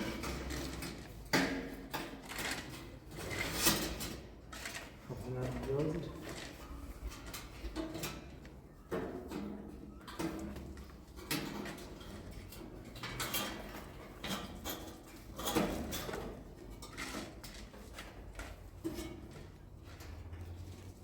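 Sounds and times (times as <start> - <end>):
clinks and scrapes: 0.0 - 21.0.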